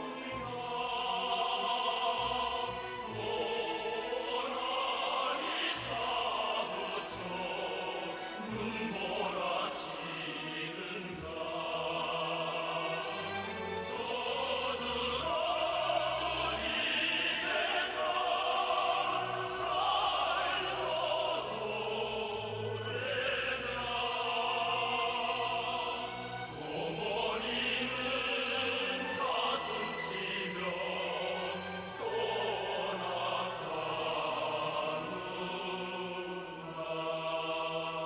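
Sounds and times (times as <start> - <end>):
orchestral music: 0.0 - 38.0
voices holding sustained notes: 0.0 - 38.0.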